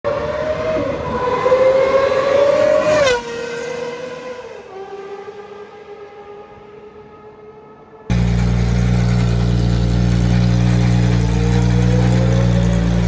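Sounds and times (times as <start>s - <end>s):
car engine at high revs: 0.1s - 7.2s, 8.1s - 13.0s.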